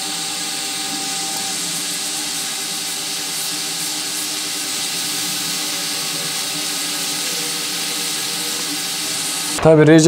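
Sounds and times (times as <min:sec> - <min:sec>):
hot air gun hissing: 0:00.0 - 0:09.6.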